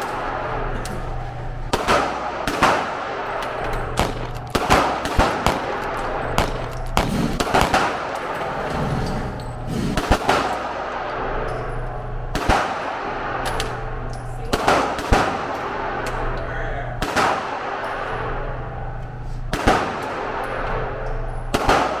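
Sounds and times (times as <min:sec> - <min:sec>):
pistol shots echoing: 0:00.0 - 0:08.8, 0:09.8 - 0:22.0
steady background hum: 0:00.0 - 0:22.0.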